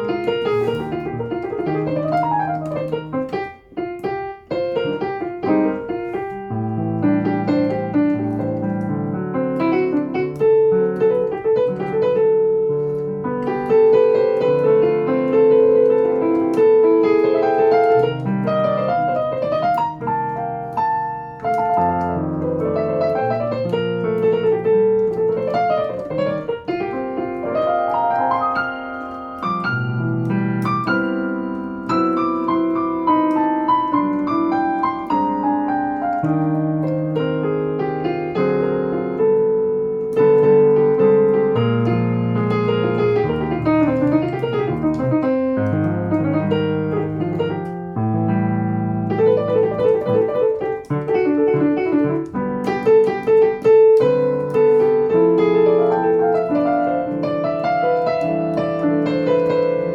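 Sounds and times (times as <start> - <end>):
solo jazz piano: 0.0 - 59.9.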